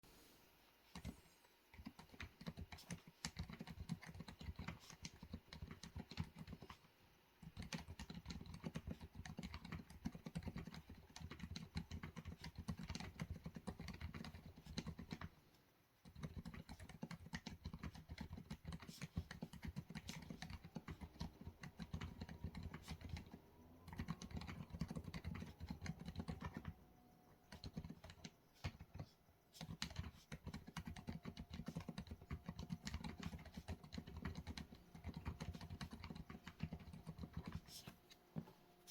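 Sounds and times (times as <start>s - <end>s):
mechanical keyboard typing: 1.7s - 15.3s, 16.0s - 37.8s.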